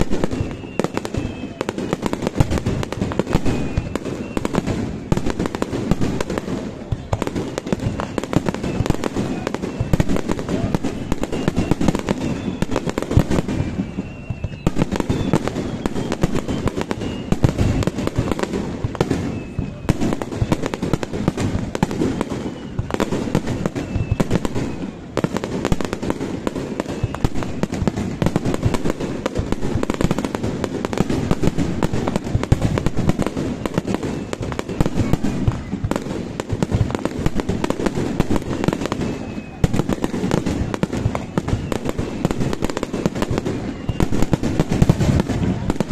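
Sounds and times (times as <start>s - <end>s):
faint firework whistles: 0.0s - 45.9s
firework booms and crackling: 0.0s - 45.9s.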